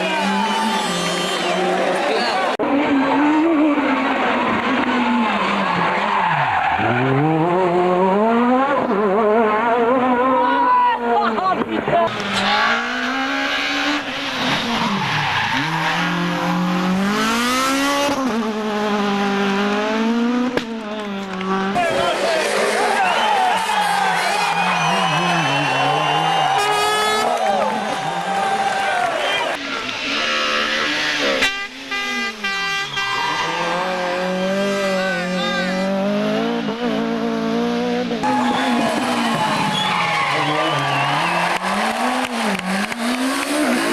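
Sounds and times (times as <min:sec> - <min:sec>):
car engine at high revs: 0:00.0 - 0:10.4, 0:11.1 - 0:43.9.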